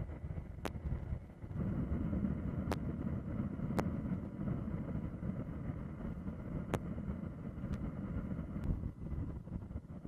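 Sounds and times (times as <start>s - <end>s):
low rumble of wind: 0.0s - 10.0s.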